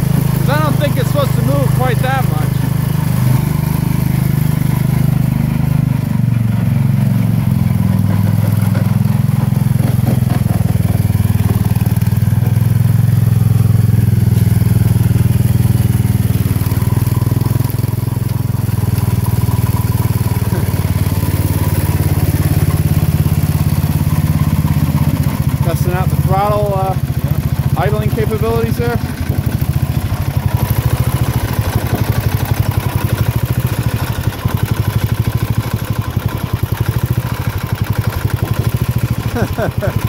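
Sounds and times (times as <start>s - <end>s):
lawn tractor engine running: 0.0s - 40.0s.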